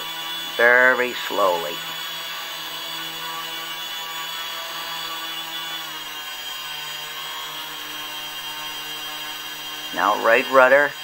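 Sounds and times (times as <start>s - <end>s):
model propeller motors whining: 0.0s - 11.0s.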